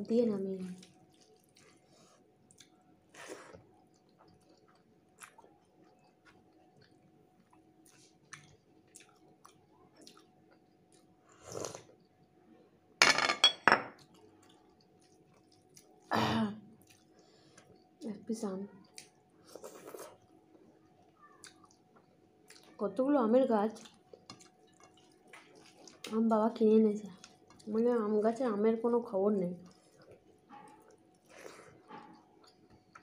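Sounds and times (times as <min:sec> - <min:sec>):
quiet chewing: 0:00.6 - 0:12.4, 0:14.0 - 0:16.1, 0:16.7 - 0:18.0, 0:18.7 - 0:22.8, 0:23.7 - 0:26.3, 0:27.0 - 0:28.4, 0:29.6 - 0:33.0.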